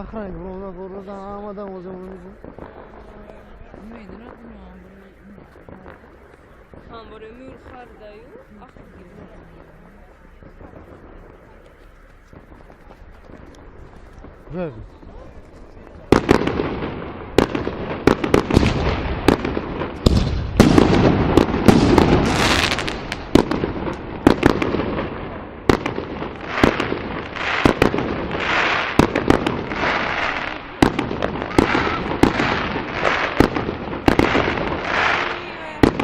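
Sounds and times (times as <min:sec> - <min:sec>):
fireworks bangs: 0:00.0 - 0:36.0
fireworks crackle: 0:00.0 - 0:36.0.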